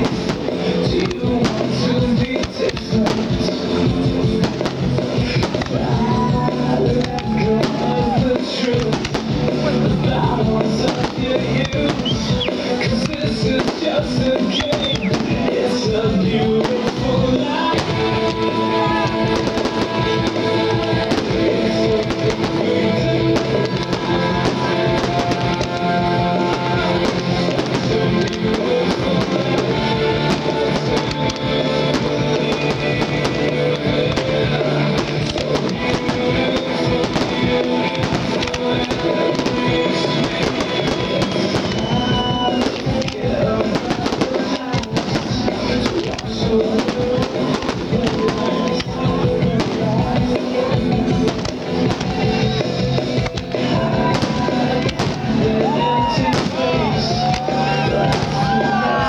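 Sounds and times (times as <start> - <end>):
firework bangs and crackles: 0.0 - 59.0
music over a sound system: 0.0 - 59.0.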